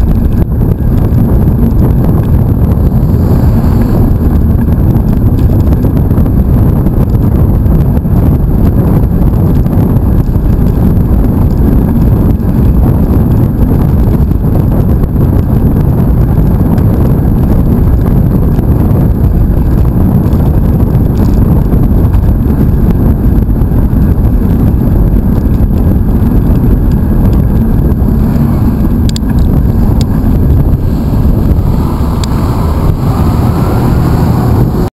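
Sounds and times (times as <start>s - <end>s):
tyre and road rumble: 0.0s - 34.9s
wind buffeting microphone: 0.0s - 34.9s.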